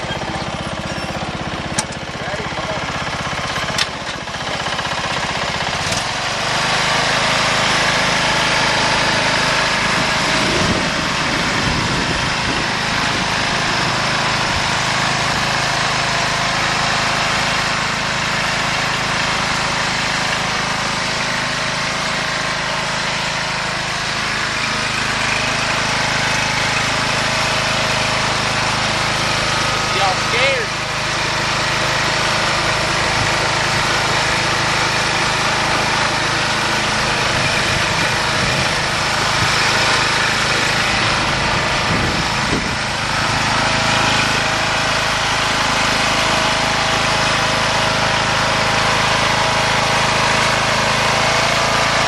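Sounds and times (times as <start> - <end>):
riding lawn mower engine: 0.0 - 52.0.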